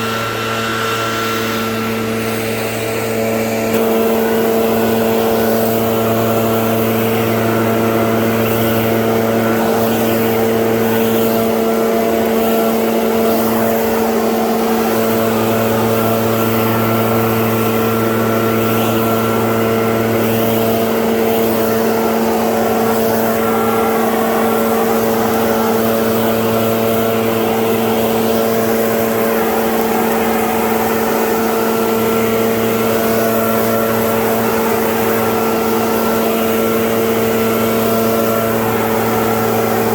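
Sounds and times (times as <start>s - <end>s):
lawn mower engine droning: 0.0s - 39.9s.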